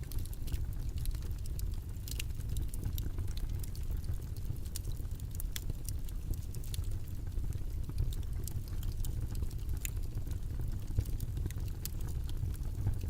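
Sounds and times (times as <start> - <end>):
faint crackles and ticks: 0.0 - 13.0.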